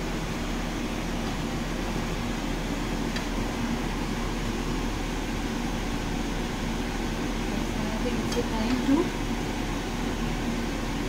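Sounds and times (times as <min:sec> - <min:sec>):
kitchen machinery whirring: 0:00.0 - 0:11.0.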